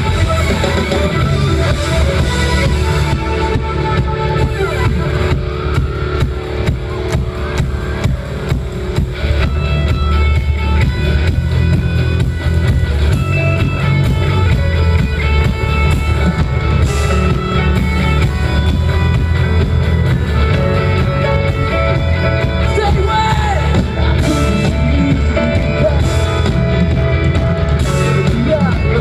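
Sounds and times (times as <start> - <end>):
live pop-punk band playing: 0.0 - 29.0.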